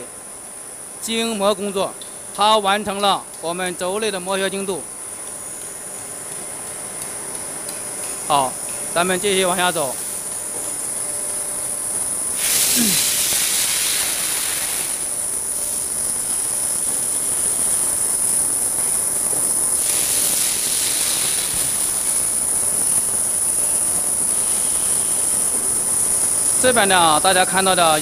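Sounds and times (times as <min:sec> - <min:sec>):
machine high-pitched whine: 0:00.0 - 0:28.0
machine hiss: 0:00.0 - 0:28.0.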